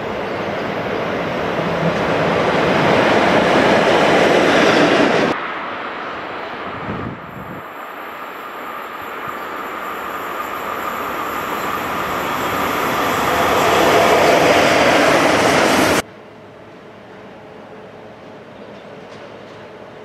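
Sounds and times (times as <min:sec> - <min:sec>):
freight train passing: 0:00.0 - 0:20.0.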